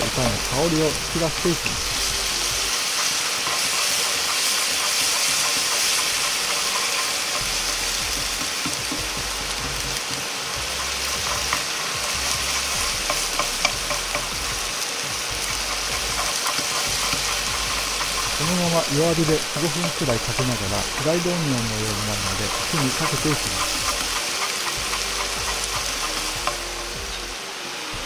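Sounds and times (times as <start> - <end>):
chopsticks scraping pan: 0.0 - 9.1, 10.6 - 14.7, 15.4 - 27.2
chopsticks tapping pan: 0.0 - 27.2
food sizzling in frying pan: 0.0 - 28.0.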